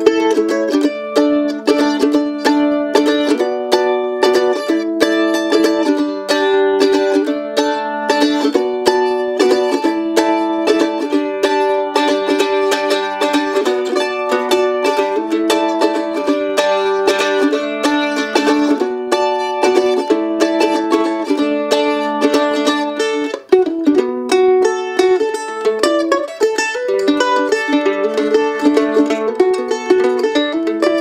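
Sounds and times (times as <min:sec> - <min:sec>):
mandolin strummed with pick: 0:00.0 - 0:31.0.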